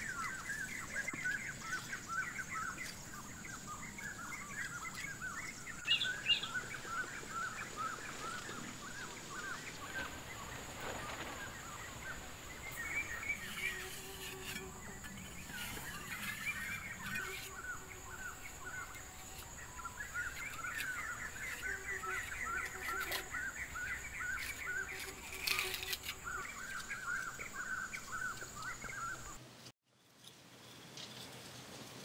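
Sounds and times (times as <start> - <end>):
insect drone: 0.0 - 29.3
bird chirping: 0.0 - 29.4.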